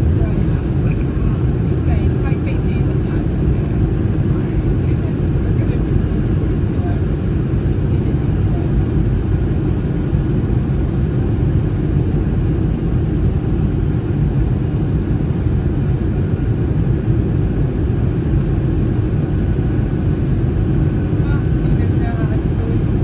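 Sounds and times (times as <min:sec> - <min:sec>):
airplane cabin engine roar: 0:00.0 - 0:23.0.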